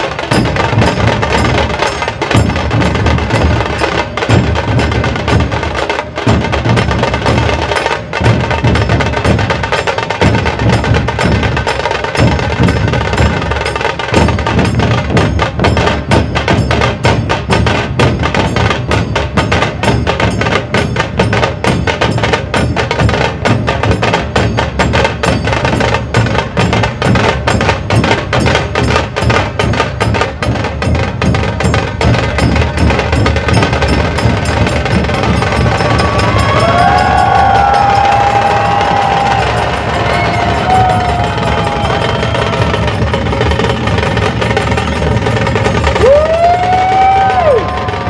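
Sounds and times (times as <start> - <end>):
barrel drums beating low rhythm: 0.0 - 48.0
sharp fast drum strokes: 0.0 - 48.0.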